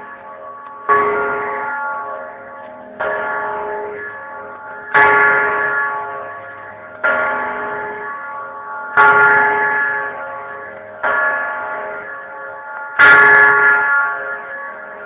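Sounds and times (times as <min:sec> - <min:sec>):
large bell tolling: 0:00.0 - 0:15.0.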